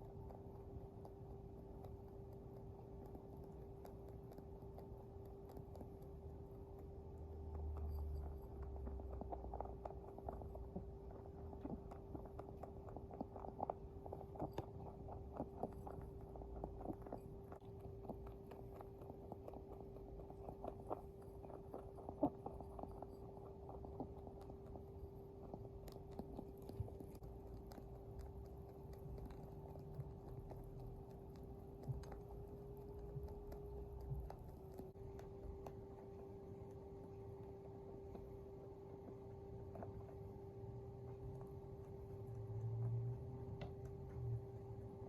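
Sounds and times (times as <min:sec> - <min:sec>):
rabbit crunching pellets: 0:00.0 - 0:45.0
steady hum: 0:00.0 - 0:45.0.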